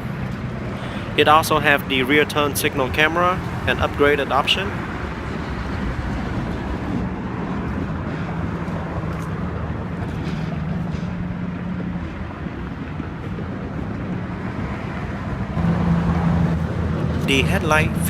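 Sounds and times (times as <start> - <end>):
low droning engine hum: 0.0 - 18.0.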